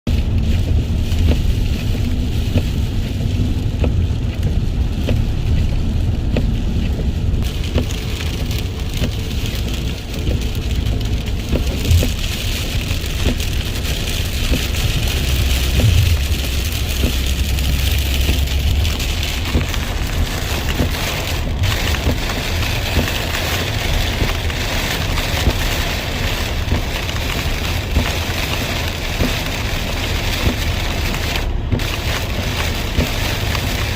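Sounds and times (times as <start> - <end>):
low rumble: 0.1 - 29.2
rain hiss: 0.1 - 33.9
raindrops ticking on a surface: 0.1 - 33.9.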